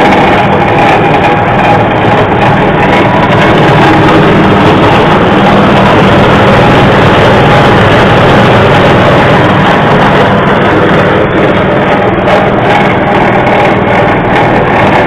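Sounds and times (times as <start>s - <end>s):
dense whirring: 0.0s - 15.0s
motor drone: 0.0s - 15.0s.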